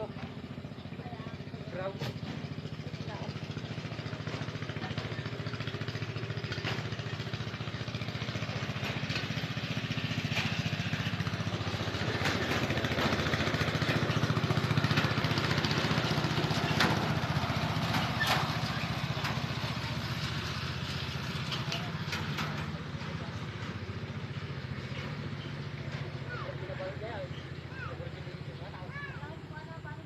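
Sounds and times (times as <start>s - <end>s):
small engine humming: 0.0s - 30.0s.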